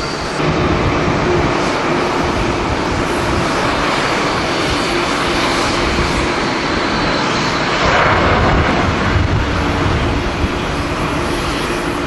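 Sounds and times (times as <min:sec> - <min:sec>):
jet engines roaring at takeoff: 0:00.0 - 0:12.0
wind buffeting microphone: 0:00.0 - 0:12.0.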